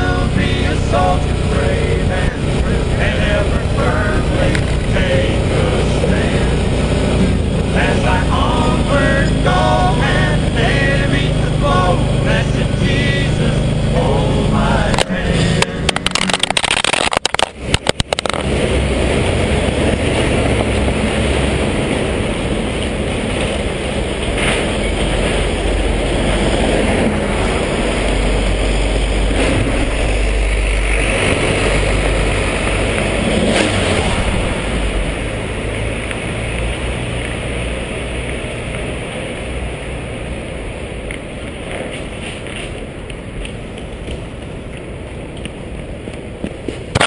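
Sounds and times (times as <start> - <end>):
motorcycle engine running: 0.0 - 42.7
wind rushing over microphone: 0.0 - 47.0.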